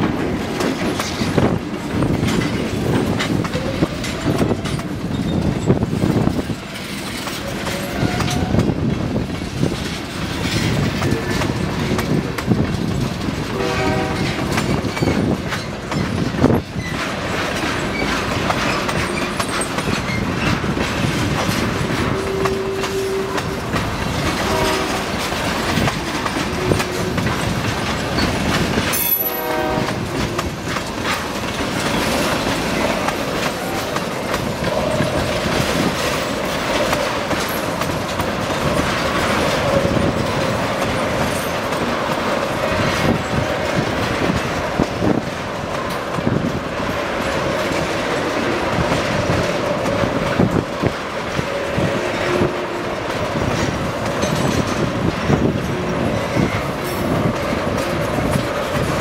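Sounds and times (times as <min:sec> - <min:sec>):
freight train rumbling past: 0:00.0 - 0:59.0
wheels clacking over rail joints: 0:00.0 - 0:59.0
wheels squealing on rail: 0:01.0 - 0:08.9, 0:09.5 - 0:45.2, 0:48.7 - 0:59.0.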